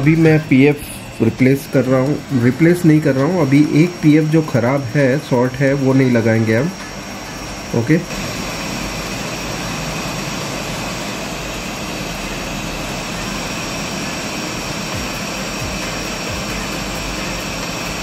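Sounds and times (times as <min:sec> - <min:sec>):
hot air gun blowing with whine: 0:00.0 - 0:18.0.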